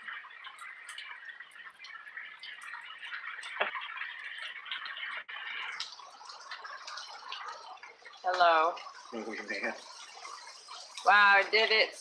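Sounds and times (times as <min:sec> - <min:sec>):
rain drops pattering: 0:00.0 - 0:12.0.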